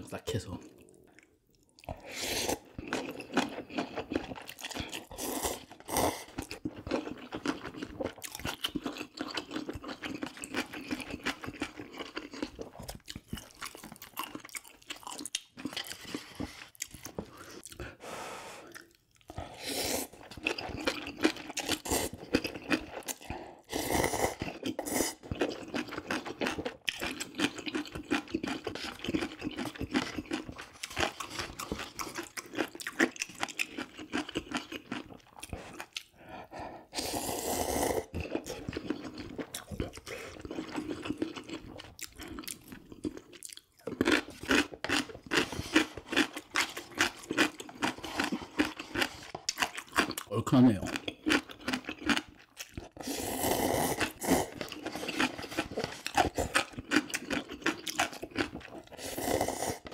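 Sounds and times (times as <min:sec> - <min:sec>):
crunchy wet chewing: 0:00.4 - 0:17.9, 0:18.6 - 0:19.5, 0:20.1 - 0:36.2, 0:38.0 - 0:59.9.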